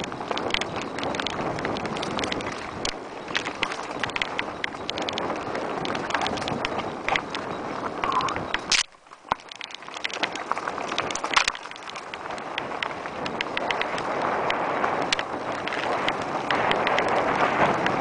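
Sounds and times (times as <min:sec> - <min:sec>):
mountain bike rattling and clicking: 0:00.0 - 0:18.0
wind rushing over microphone: 0:00.0 - 0:18.0.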